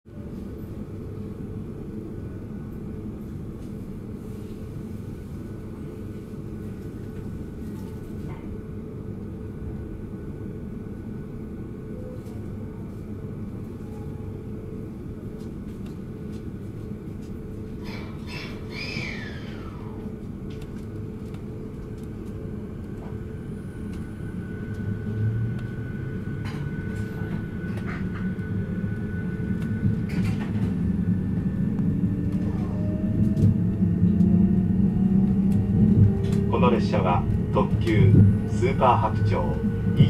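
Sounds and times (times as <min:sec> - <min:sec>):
train interior low hum: 0:00.1 - 0:40.0.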